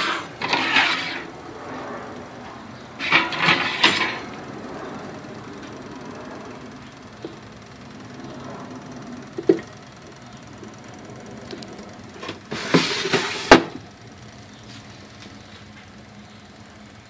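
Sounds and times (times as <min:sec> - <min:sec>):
rotisserie motor humming: 0:00.0 - 0:17.0.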